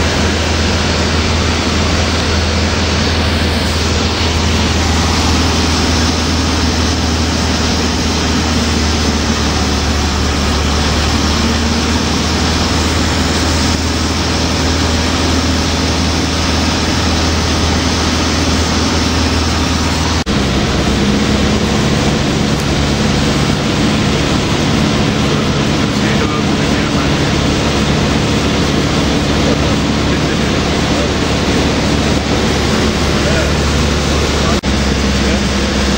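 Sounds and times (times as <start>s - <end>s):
airplane engine and propeller: 0.0s - 35.9s
loud rush of air: 0.0s - 35.9s.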